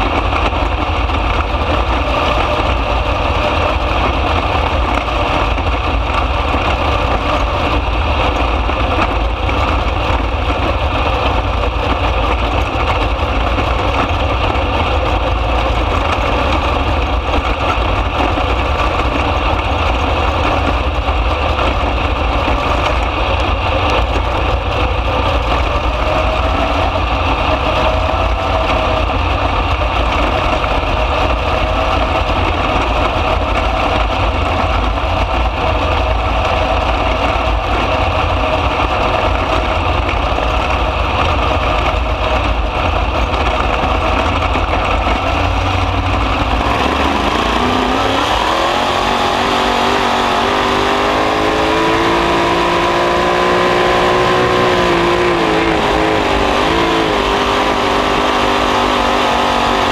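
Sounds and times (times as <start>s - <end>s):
race car engine roaring: 0.0s - 59.9s.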